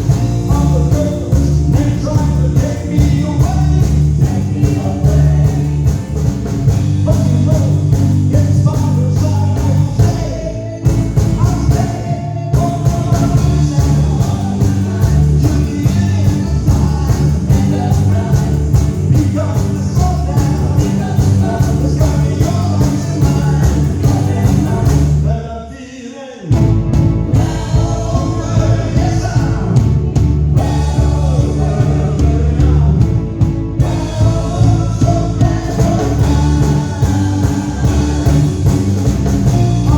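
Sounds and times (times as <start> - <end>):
rock and roll song with band: 0.0 - 25.7, 26.4 - 39.9.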